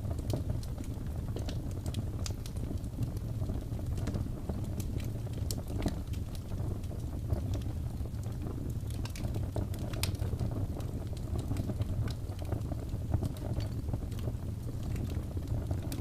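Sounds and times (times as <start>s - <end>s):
fire pops and crackles: 0.0s - 16.0s
wood fire flames rumbling: 0.0s - 16.0s.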